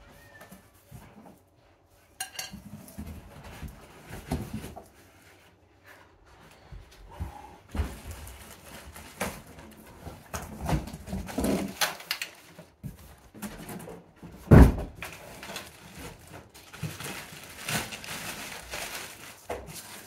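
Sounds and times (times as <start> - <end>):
cardboard rustling and scraping: 0.2 - 20.0.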